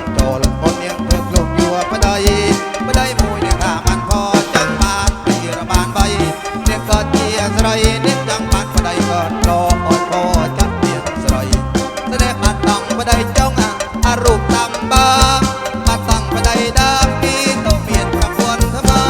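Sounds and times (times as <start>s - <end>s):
fast percussion beat: 0.0s - 19.0s
sustained melody line: 0.0s - 19.0s.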